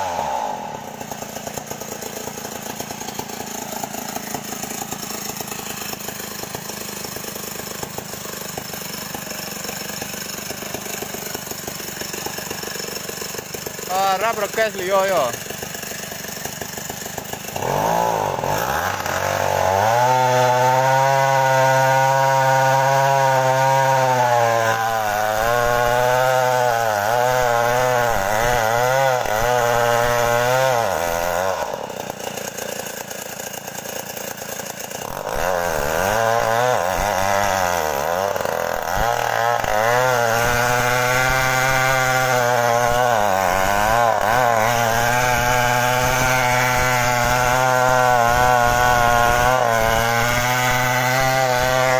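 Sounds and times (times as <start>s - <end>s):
chainsaw revving and cutting wood: 0.0s - 51.9s.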